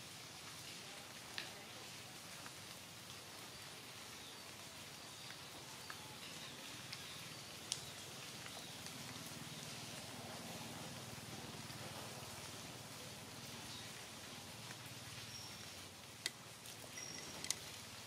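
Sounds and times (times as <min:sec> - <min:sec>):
light rain on leaves: 0:00.0 - 0:18.0
sharp drips: 0:00.0 - 0:18.0.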